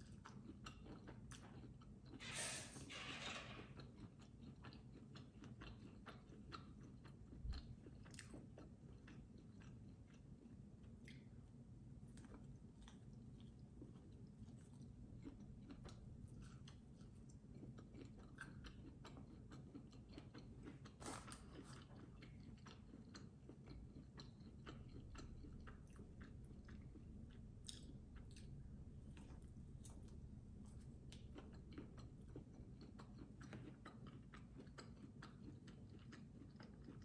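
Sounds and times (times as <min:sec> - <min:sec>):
chewing corn on the cob: 0:00.0 - 0:02.3, 0:02.9 - 0:37.0.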